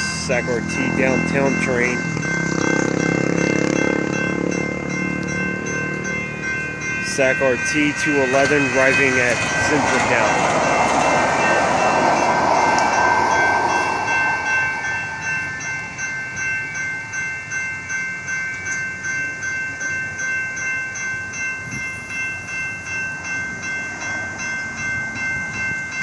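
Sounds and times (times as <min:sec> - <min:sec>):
crossing warning bell ringing: 0:00.0 - 0:26.0
passing train rolling: 0:00.0 - 0:26.0.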